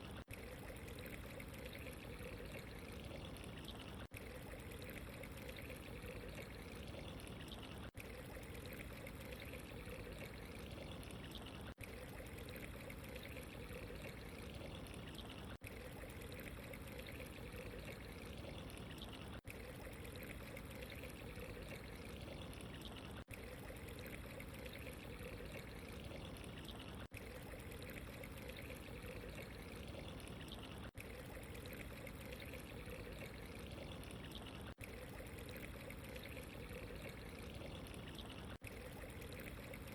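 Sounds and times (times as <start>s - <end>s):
water running and trickling: 0.0s - 39.9s.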